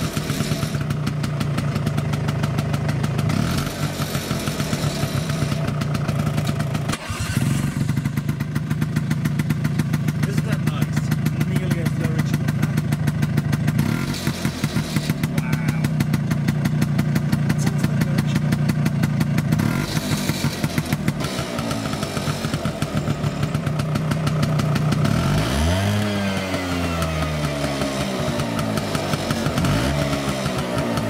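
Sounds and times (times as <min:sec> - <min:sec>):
engine revving: 0:00.0 - 0:31.0
scooter engine idling: 0:00.0 - 0:31.0.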